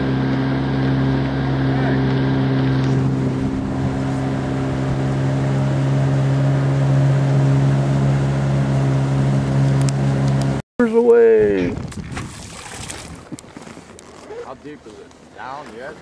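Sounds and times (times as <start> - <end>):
outboard motor droning: 0.0 - 11.9, 12.5 - 16.0
water noise: 0.0 - 16.0
wind: 0.0 - 16.0.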